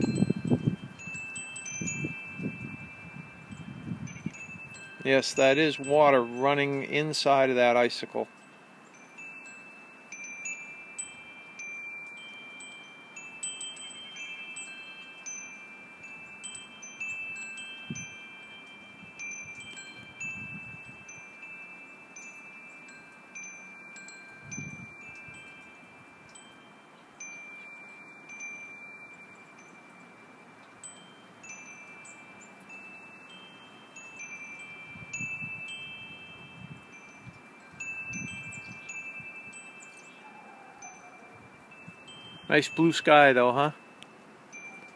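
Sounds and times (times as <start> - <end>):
wind chimes ringing: 0.0 - 44.9.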